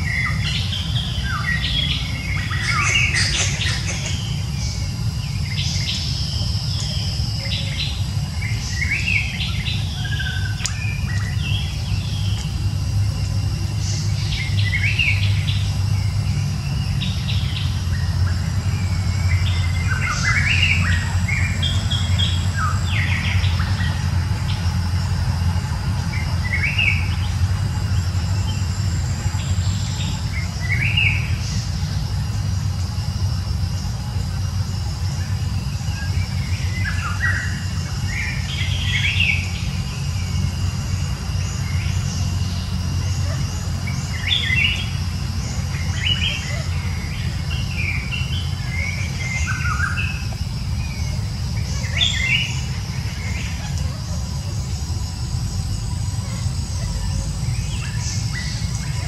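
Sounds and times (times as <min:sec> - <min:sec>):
birds chirping: 0:00.0 - 0:59.0
steady low rumble: 0:00.0 - 0:59.0.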